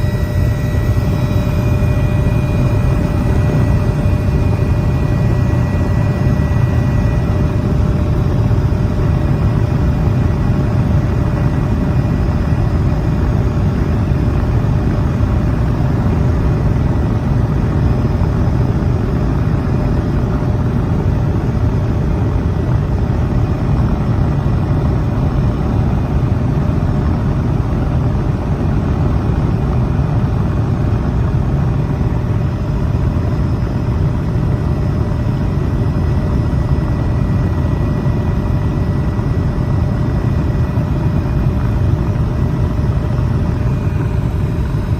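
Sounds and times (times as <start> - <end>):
faint whining tones: 0.0 - 44.9
low engine drone: 0.0 - 44.9.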